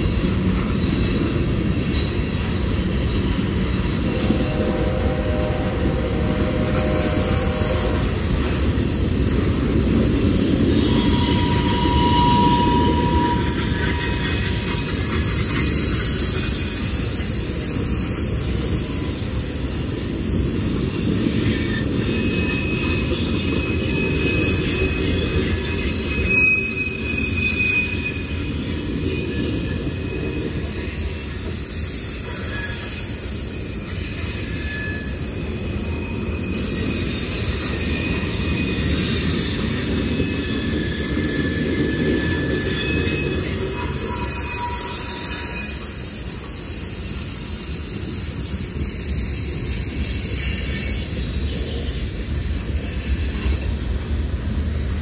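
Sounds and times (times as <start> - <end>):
freight train wheels rumbling: 0.0 - 55.0
high wheel squeal: 0.0 - 55.0.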